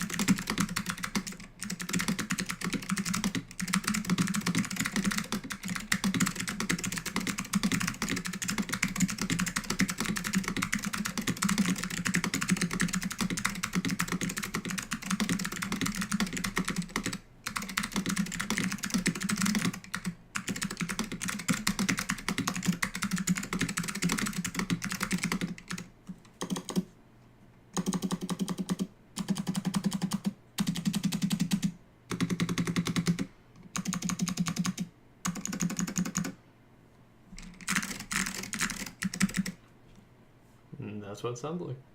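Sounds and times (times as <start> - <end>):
typing on mechanical keyboard: 0.0 - 26.9, 27.8 - 36.4, 37.4 - 39.6.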